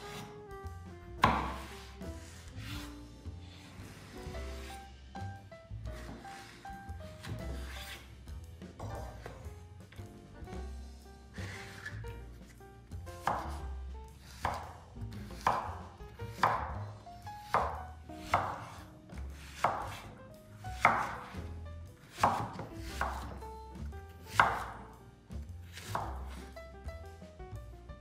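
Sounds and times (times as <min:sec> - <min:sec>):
knife chopping on cutting board: 0:01.2 - 0:10.7, 0:11.3 - 0:26.6.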